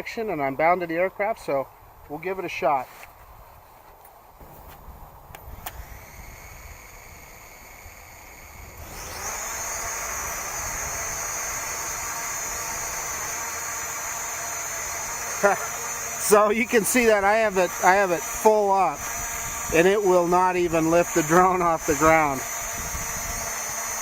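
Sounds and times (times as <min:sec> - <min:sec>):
drone motor clicks: 0:04.0 - 0:24.0
drone motors whining: 0:04.4 - 0:24.0.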